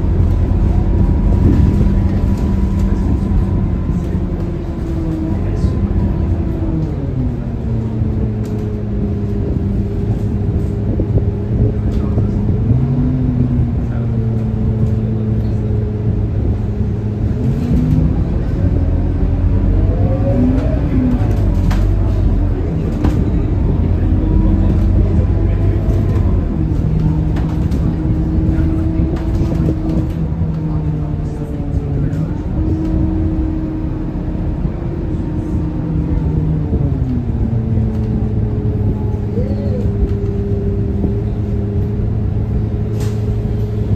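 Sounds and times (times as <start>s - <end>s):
bus diesel engine: 0.0s - 43.9s.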